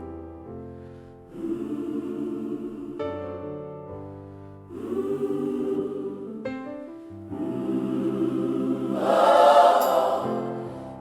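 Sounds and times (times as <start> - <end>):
choir holding long chords: 1.3 - 3.7, 4.5 - 11.0.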